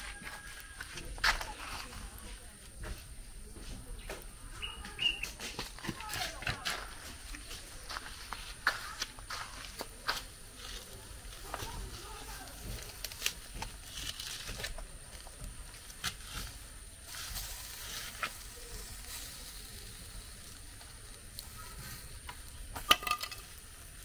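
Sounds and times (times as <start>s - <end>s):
food sizzling and popping: 0.0s - 24.0s.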